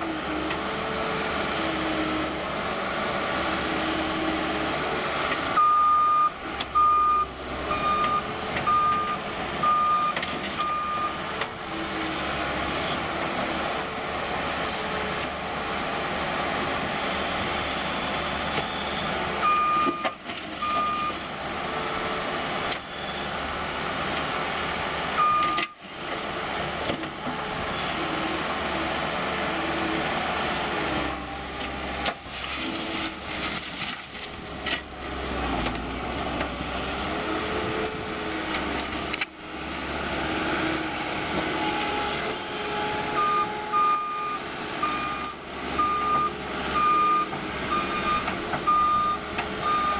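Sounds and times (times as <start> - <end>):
diesel engine working: 0.0 - 49.9.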